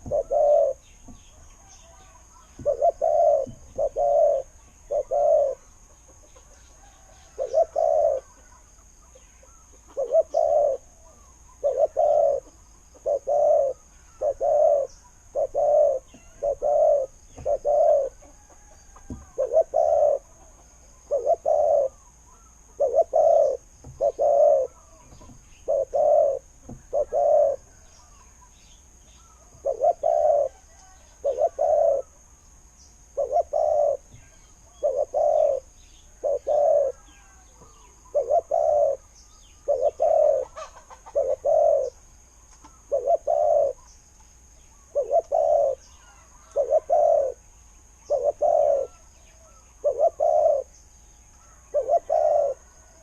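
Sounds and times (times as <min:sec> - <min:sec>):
dove cooing: 0:00.0 - 0:00.9, 0:01.6 - 0:28.5, 0:29.2 - 0:32.3, 0:33.1 - 0:43.9, 0:44.8 - 0:50.8, 0:51.4 - 0:53.0.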